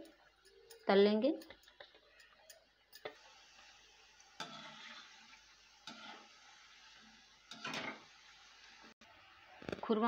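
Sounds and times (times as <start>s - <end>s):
dough sizzling in hot oil: 0.0s - 10.0s.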